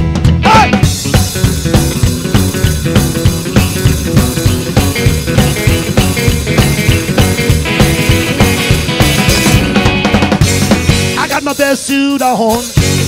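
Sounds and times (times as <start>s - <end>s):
upright double bass: 0.0s - 11.3s
drum kit: 0.0s - 13.0s
electric guitar: 0.0s - 13.0s.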